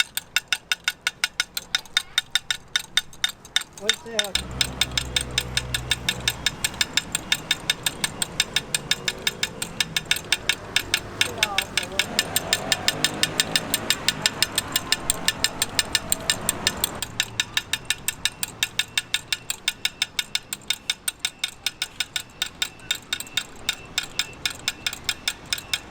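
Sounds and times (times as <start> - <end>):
rapid mechanical clicking: 0.0 - 25.9.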